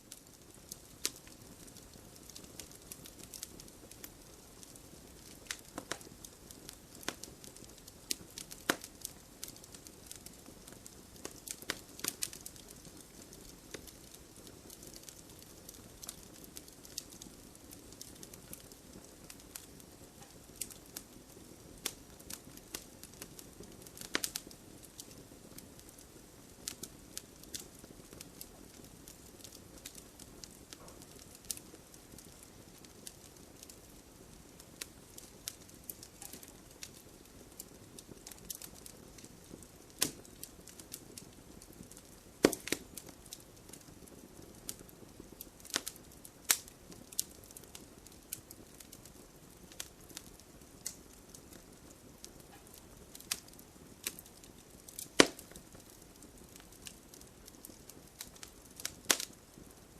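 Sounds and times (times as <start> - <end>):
fire crackles and pops: 0.0 - 59.9.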